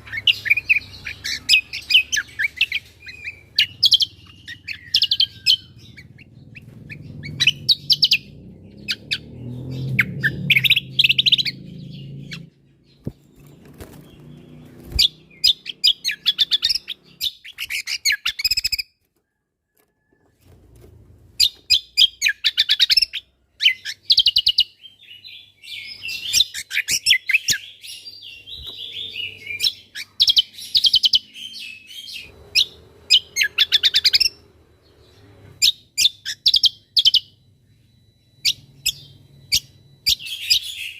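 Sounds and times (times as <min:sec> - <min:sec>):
bird chattering and trilling: 0:00.0 - 0:18.9, 0:21.4 - 0:40.9.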